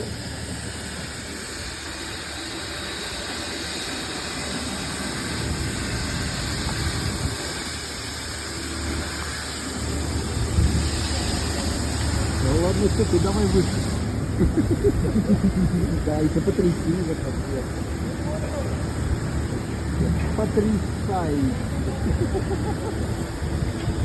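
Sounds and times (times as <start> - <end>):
engine running drone: 0.0 - 24.0.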